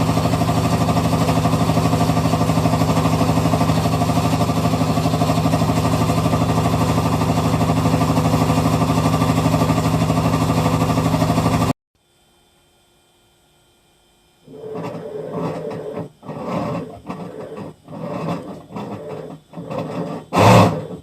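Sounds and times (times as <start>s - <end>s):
washing machine rattling: 0.0s - 11.7s, 14.5s - 21.0s.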